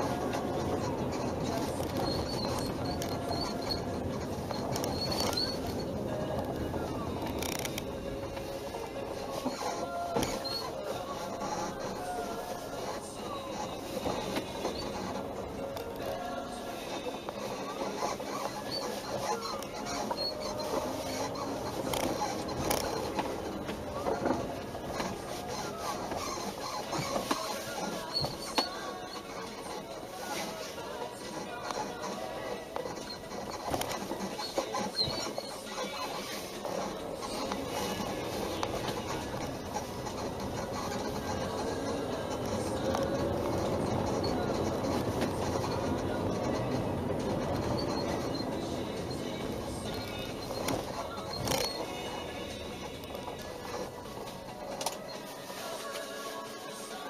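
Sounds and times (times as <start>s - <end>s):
suspension bushings squeaking: 0.0s - 57.0s.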